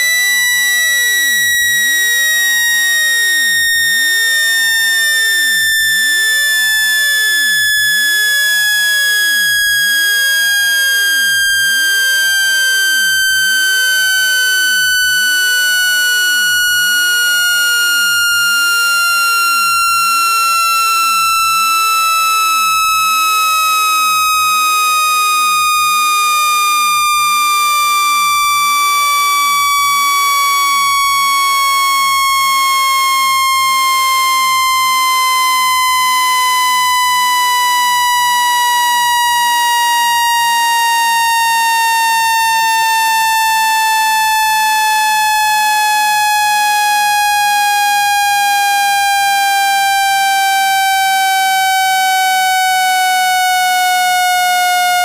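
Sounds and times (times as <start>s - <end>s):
electronic tone sweeping down: 0.0s - 46.6s.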